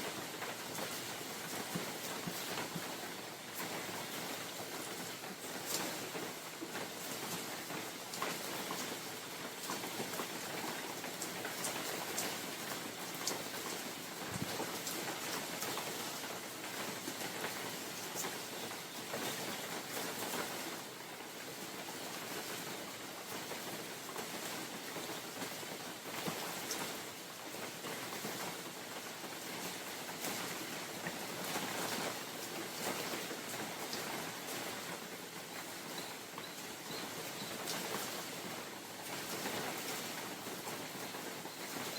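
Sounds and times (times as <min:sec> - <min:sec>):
rain hissing in forest: 0:00.0 - 0:41.9.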